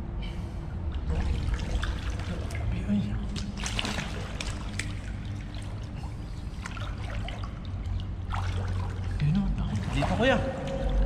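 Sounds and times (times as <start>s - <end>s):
steady low hum: 0.0s - 11.0s
water trickling and splashing: 0.9s - 11.0s
short sharp splashes: 1.0s - 11.0s.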